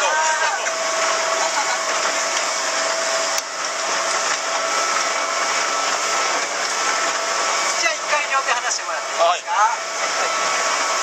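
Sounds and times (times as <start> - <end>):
motorboat running at speed: 0.0 - 11.0.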